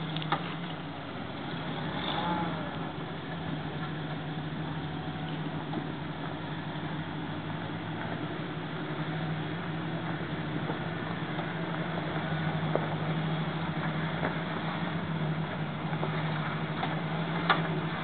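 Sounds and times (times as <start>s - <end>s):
off-road vehicle engine at low revs: 0.0s - 18.0s.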